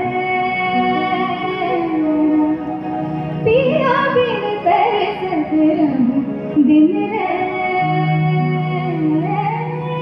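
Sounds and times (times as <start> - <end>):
woman singing into a microphone: 0.0 - 10.0.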